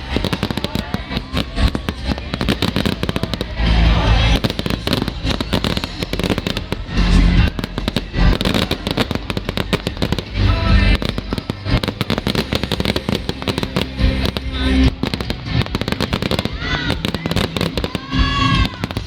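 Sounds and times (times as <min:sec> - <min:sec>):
fireworks crackling: 0:00.0 - 0:19.0
music: 0:00.0 - 0:19.0.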